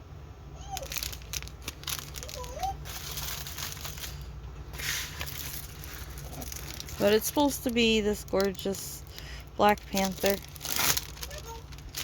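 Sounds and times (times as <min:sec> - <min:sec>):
plastic packaging crinkling: 0:00.6 - 0:12.0.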